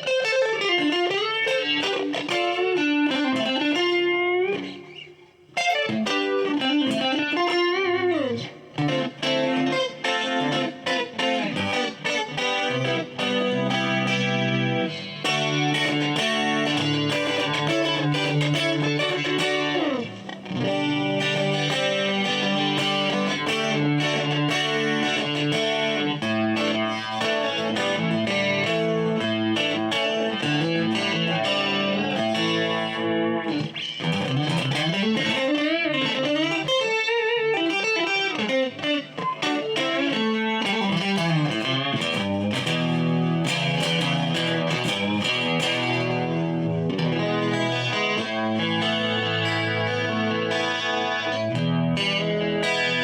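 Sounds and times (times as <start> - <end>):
clean electric guitar: 0.0 - 53.0.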